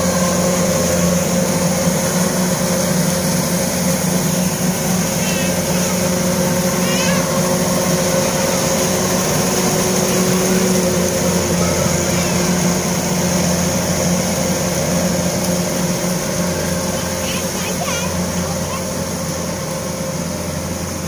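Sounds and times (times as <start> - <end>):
combine harvester engine droning: 0.0 - 21.0.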